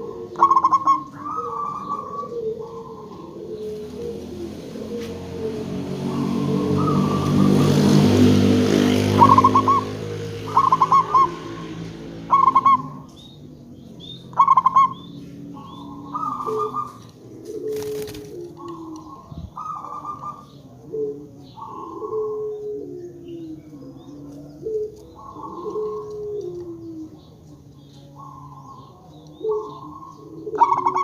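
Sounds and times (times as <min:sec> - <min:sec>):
low drone: 0:00.0 - 0:30.5
dove cooing: 0:00.0 - 0:31.0.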